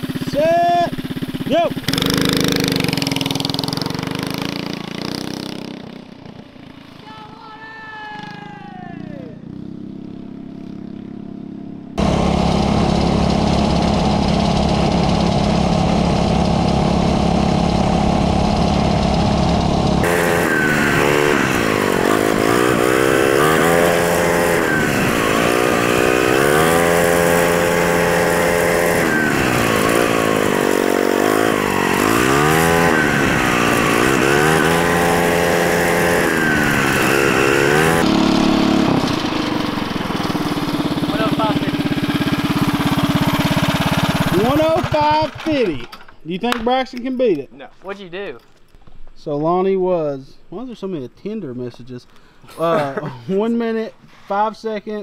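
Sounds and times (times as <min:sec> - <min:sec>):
mini bike engine running hard: 0:00.0 - 0:45.7.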